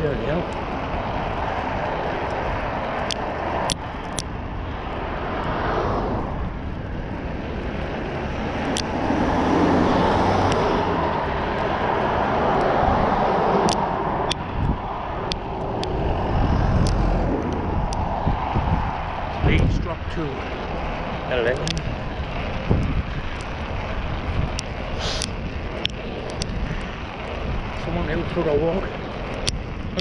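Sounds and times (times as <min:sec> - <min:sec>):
sharp clicks and rattles: 0:00.0 - 0:04.4, 0:07.4 - 0:09.3, 0:11.2 - 0:16.1, 0:16.7 - 0:30.0
wind and road noise: 0:00.0 - 0:30.0.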